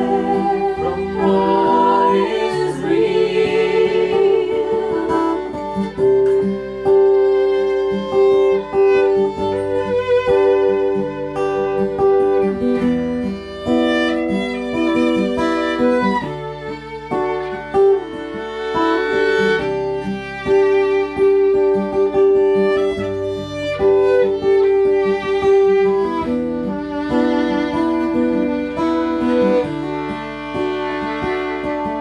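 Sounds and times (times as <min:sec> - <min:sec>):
fiddle melody: 0:00.0 - 0:32.0
strummed acoustic guitar: 0:00.0 - 0:32.0.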